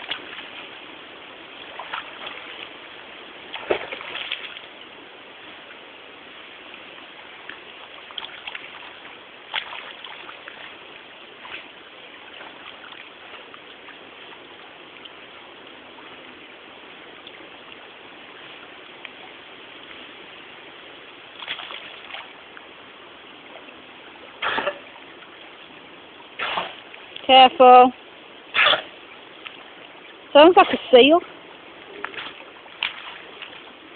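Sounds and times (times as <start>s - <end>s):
water rushing: 0.0s - 33.9s.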